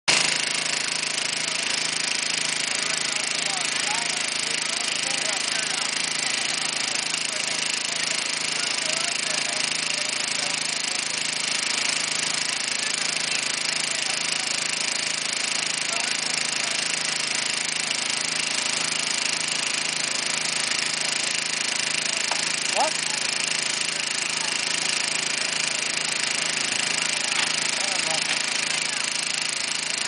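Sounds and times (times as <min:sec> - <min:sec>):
small engine running steadily: 0:00.1 - 0:30.0.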